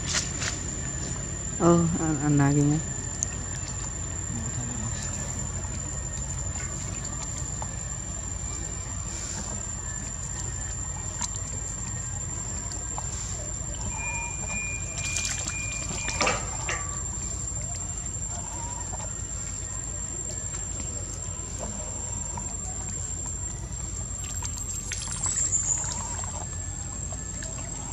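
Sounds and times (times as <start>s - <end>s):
high insect drone: 0.0s - 27.9s
water sloshing and trickling: 2.4s - 27.9s.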